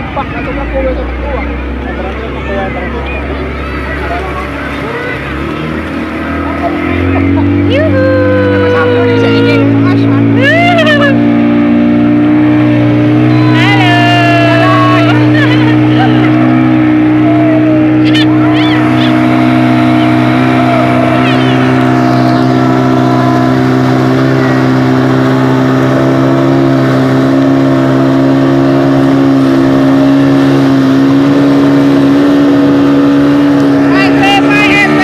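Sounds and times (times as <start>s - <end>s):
motorboat engine running: 0.0s - 35.0s.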